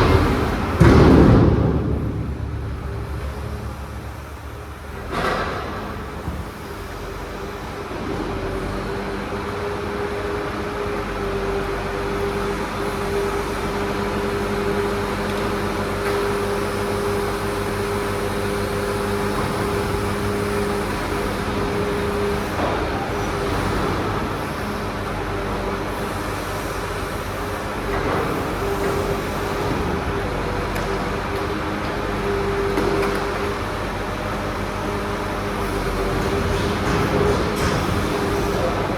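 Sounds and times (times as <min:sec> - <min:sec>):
truck engine and hydraulics: 0:00.0 - 0:38.9.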